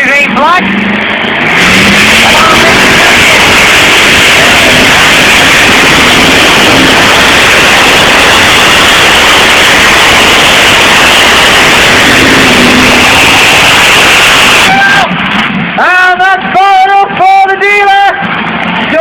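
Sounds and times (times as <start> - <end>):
distorted tractor engine at full throttle: 0.0 - 19.0.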